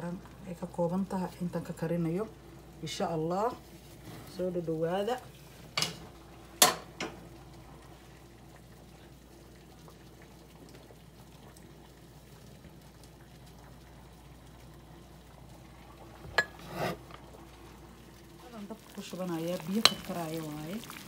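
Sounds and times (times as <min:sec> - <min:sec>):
kitchen background hum: 0:00.0 - 0:21.0.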